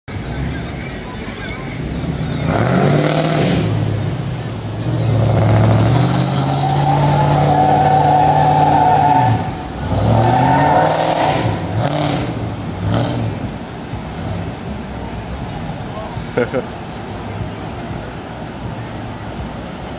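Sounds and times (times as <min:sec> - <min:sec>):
car engine revving: 0:00.1 - 0:19.9.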